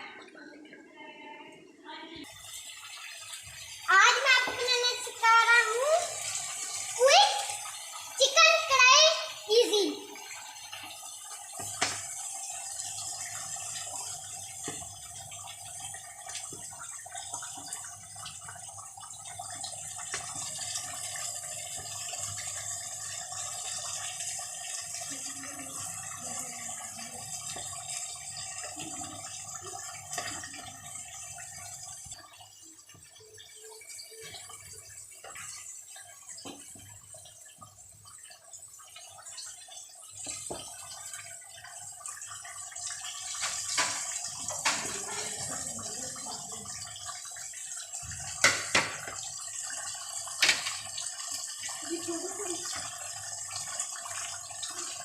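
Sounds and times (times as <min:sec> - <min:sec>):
food sizzling and bubbling: 0:00.0 - 0:55.0.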